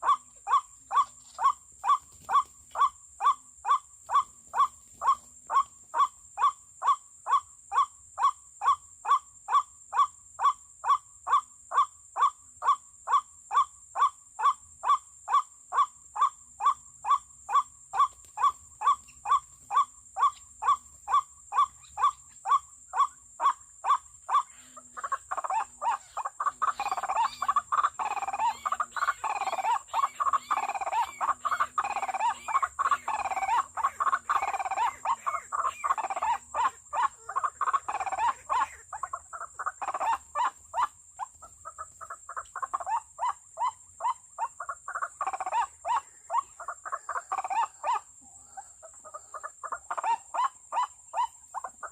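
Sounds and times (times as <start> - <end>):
bird croaking calls: 0.0 - 51.9.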